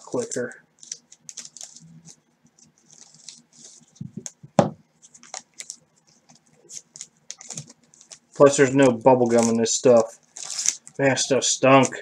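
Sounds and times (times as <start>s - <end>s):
wrapper crinkling: 0.0s - 4.4s, 5.0s - 12.0s.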